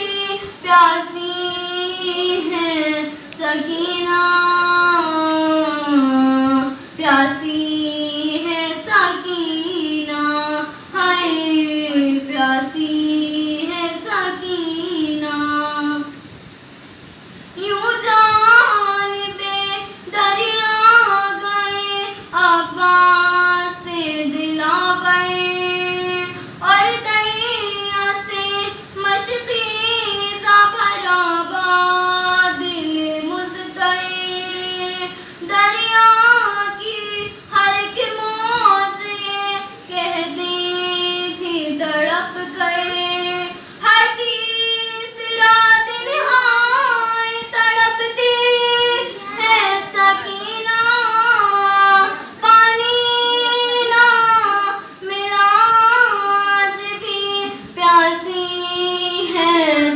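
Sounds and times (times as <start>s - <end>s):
girl singing unaccompanied: 0.0s - 16.2s, 17.6s - 59.9s.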